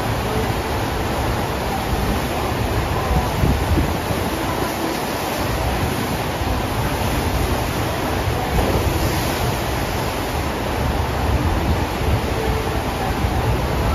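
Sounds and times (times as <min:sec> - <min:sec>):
roar of rushing water: 0:00.0 - 0:13.9.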